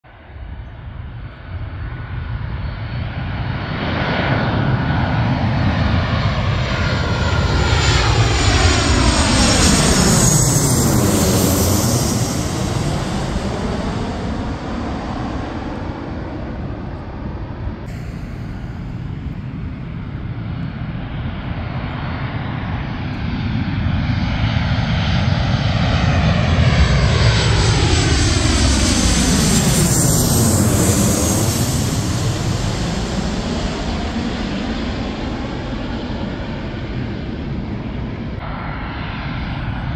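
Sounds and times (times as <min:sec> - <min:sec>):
jet airliner passing overhead: 0:00.1 - 0:39.9.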